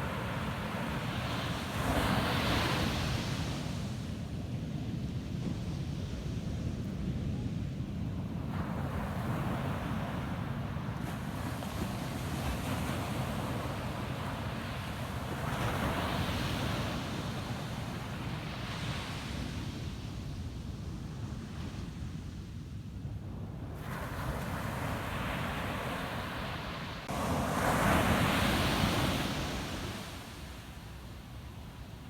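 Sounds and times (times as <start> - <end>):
ocean waves breaking on beach: 0.0 - 21.9, 23.4 - 32.0.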